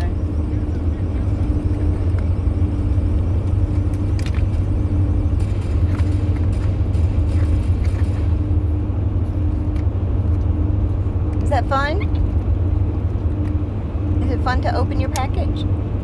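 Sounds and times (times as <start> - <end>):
constant hum: 0.0 - 16.0
vehicle cabin rumble: 0.0 - 16.0.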